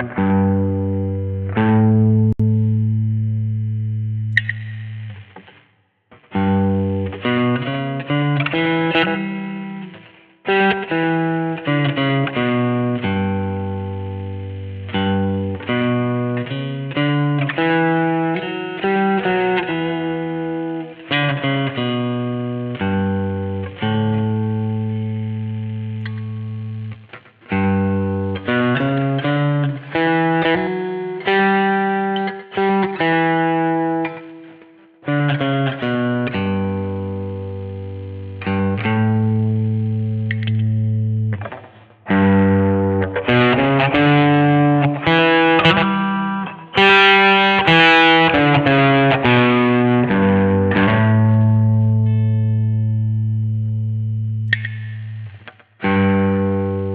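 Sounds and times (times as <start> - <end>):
electric guitar with effects: 0.0 - 56.9.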